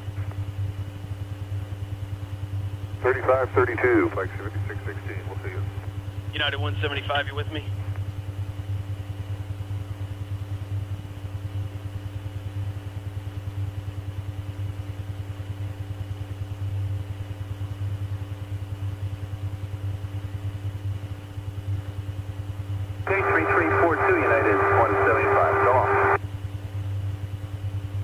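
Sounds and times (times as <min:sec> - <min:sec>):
low electrical hum: 0:00.0 - 0:28.0
faint steady tones: 0:02.0 - 0:27.3.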